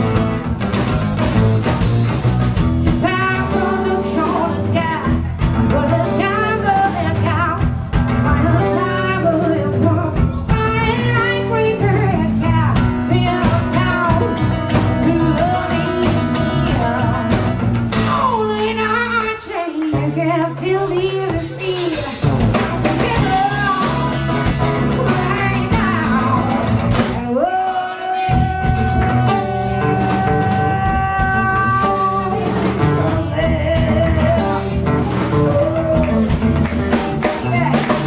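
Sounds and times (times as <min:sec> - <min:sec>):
electric bass: 0:00.0 - 0:27.5, 0:28.3 - 0:38.0
acoustic guitar: 0:00.0 - 0:38.0
drum kit: 0:00.0 - 0:38.0
electric guitar: 0:00.0 - 0:38.0.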